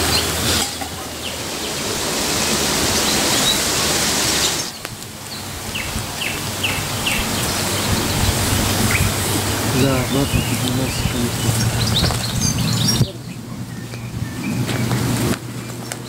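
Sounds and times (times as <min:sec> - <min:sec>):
small birds chirping: 0:00.0 - 0:16.0
steady rushing noise: 0:00.0 - 0:16.0.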